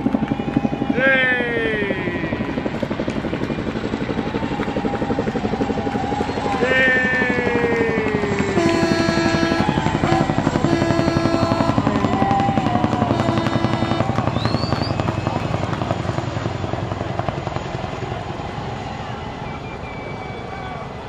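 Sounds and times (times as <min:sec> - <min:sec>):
helicopter rotor beating: 0:00.0 - 0:21.0.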